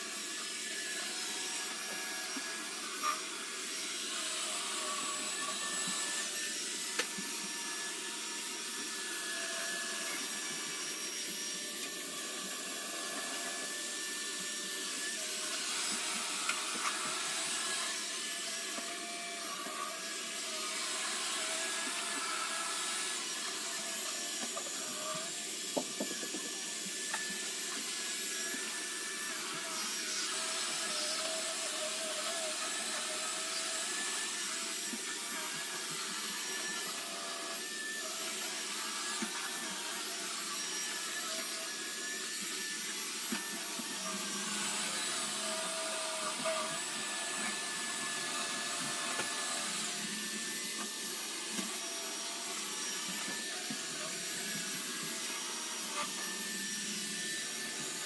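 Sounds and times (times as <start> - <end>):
robot vacuum motor whirring: 0.0 - 58.0.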